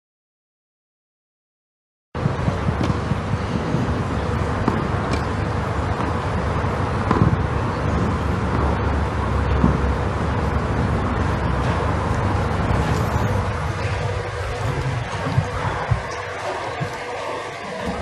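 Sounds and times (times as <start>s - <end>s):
outdoor ambience rumble with hiss: 2.2s - 18.0s.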